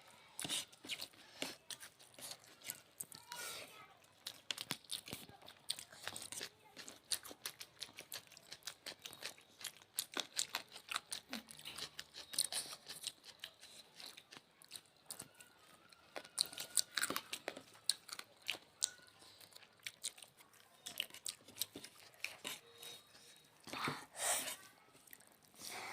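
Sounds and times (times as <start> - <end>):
people chewing and crunching: 0.0 - 25.9.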